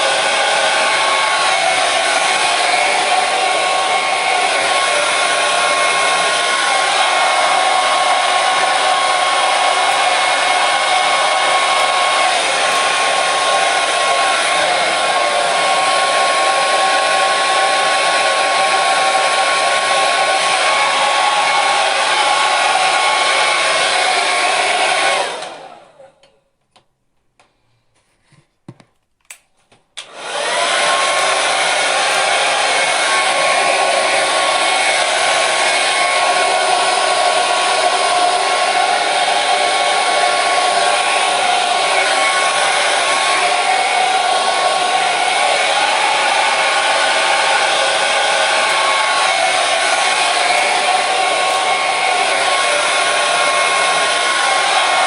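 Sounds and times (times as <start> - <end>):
hair dryer blowing: 0.0 - 26.2, 30.0 - 55.0.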